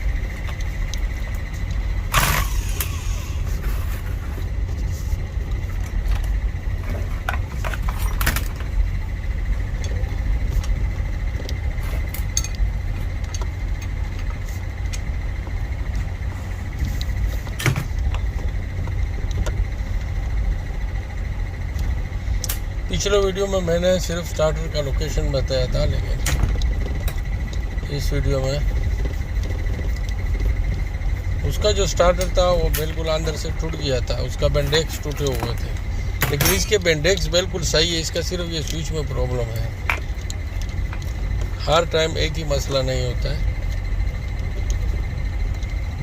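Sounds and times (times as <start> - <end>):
faint high whine: 0.0 - 46.0
low rumble: 0.0 - 46.0.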